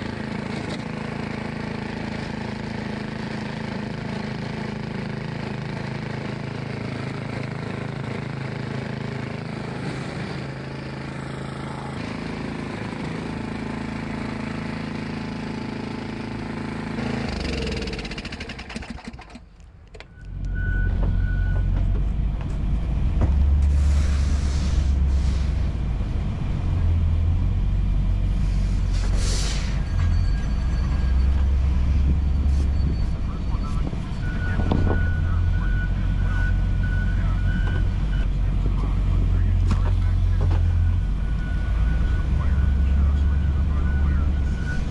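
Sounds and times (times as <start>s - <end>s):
deep engine rumble: 0.0s - 44.9s
engine running: 0.0s - 44.9s.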